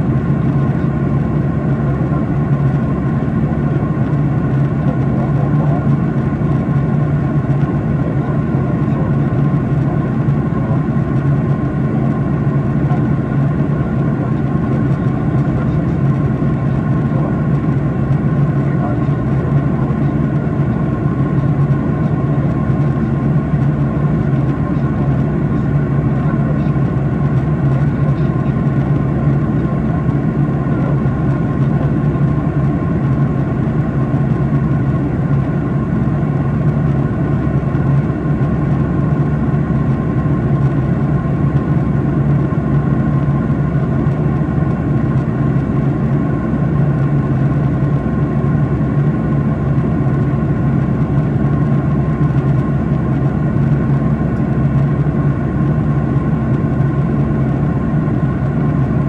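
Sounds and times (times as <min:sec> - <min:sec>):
aircraft cabin drone: 0:00.0 - 0:59.0.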